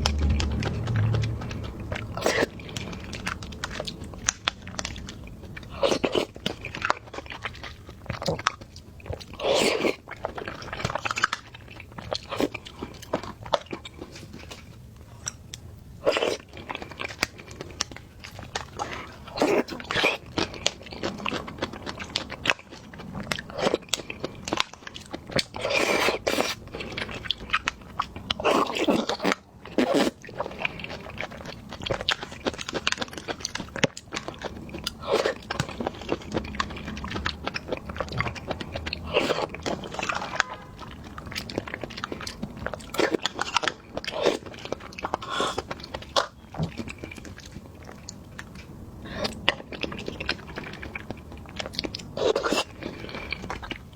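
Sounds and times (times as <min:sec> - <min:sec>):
biting and chewing snacks: 0:00.0 - 0:53.9.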